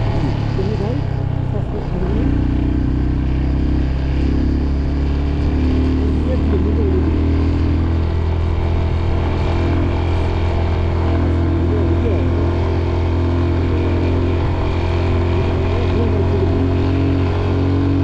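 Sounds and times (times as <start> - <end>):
motorcycle engine running steadily: 0.0 - 18.0.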